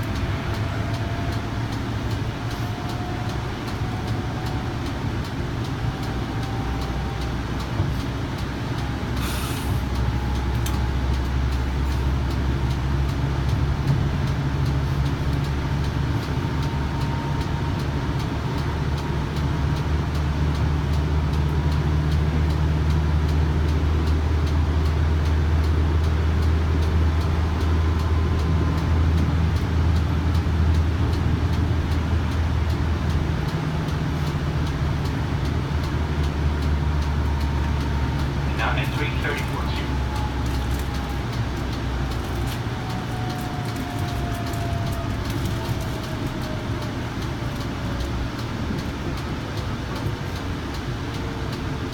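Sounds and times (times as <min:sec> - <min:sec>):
wheels rumbling on rail: 0:00.0 - 0:51.9.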